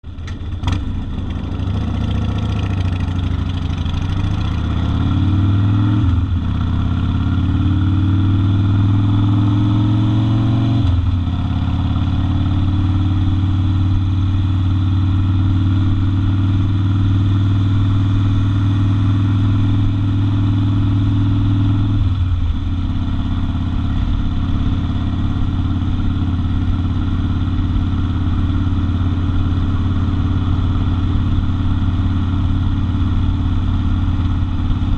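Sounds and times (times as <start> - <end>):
motorcycle engine pulling away: 0.1 - 34.9.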